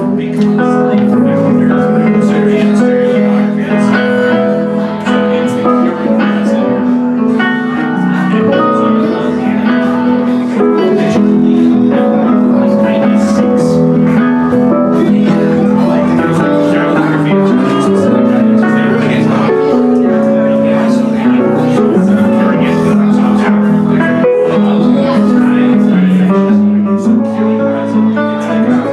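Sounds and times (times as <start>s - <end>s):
live band music: 0.0s - 28.9s
strummed guitar: 0.0s - 28.9s.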